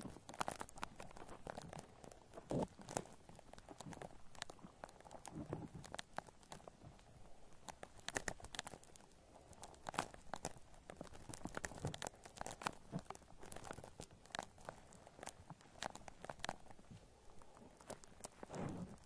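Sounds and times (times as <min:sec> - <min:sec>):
shaving foam crackling: 0:00.0 - 0:19.0.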